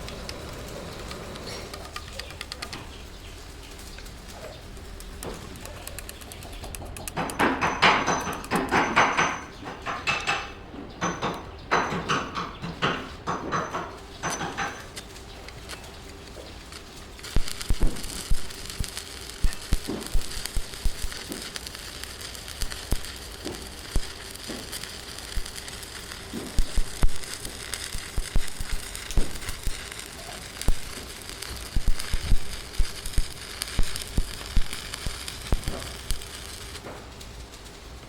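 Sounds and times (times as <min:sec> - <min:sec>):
steady crackling hiss: 0:00.0 - 0:38.0.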